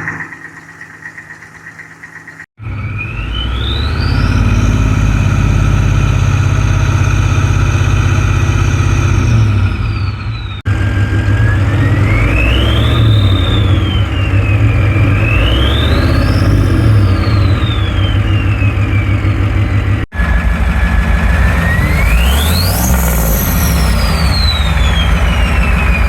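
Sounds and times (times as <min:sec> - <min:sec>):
turbo whistle spooling: 0:00.0 - 0:26.0
diesel engine revving: 0:02.5 - 0:26.0.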